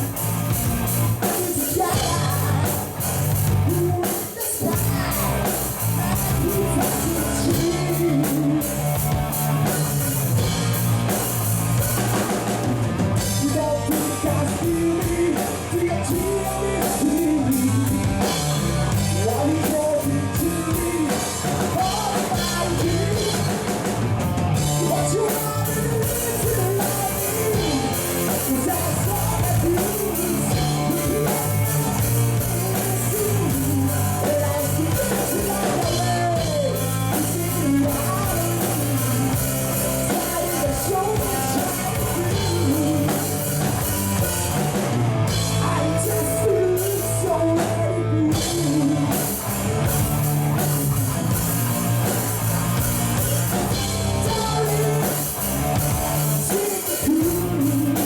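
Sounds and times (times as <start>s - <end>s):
rock song with singing: 0.0s - 58.0s.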